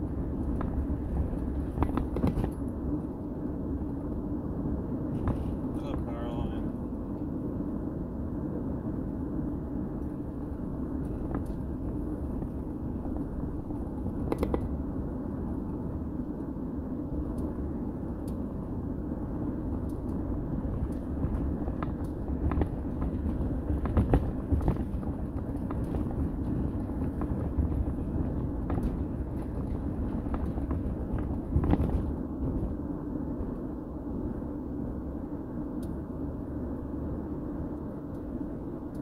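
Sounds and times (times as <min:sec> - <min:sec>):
vehicle driving at highway speed: 0:00.0 - 0:39.0.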